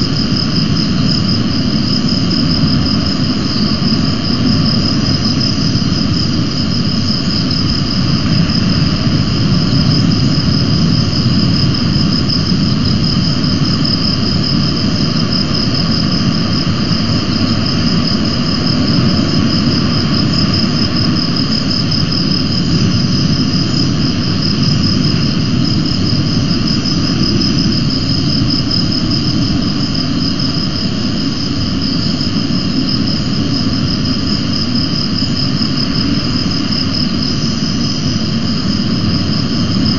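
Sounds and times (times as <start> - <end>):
insect trill: 0.0 - 39.9
wind rumble on microphone: 0.0 - 39.9.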